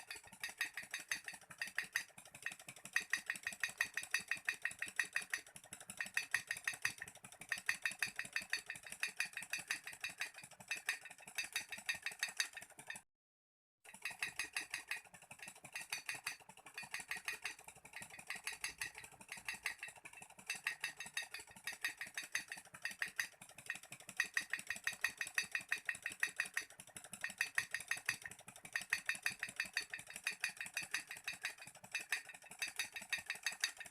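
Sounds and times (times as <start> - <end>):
stirling engine clicking rattle: 0.0 - 13.1, 13.9 - 33.9.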